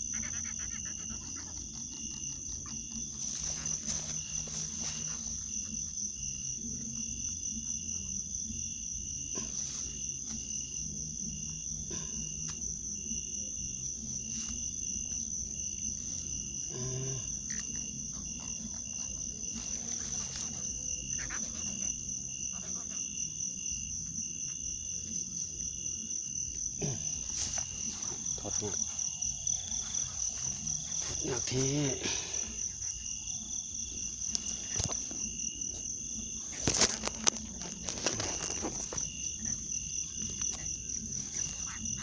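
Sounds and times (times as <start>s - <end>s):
high-pitched insect trill: 0.0s - 42.0s.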